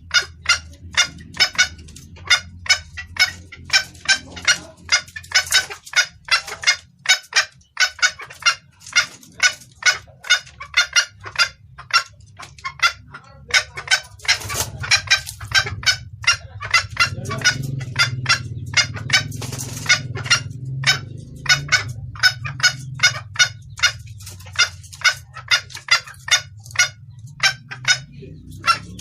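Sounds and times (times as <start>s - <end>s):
hen clucking: 0.0s - 29.0s.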